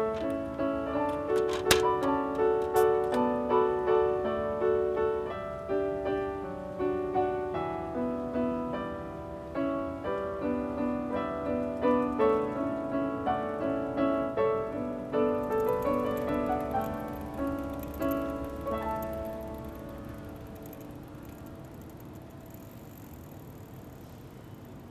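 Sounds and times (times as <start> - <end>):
slow piano melody: 0.0 - 23.0.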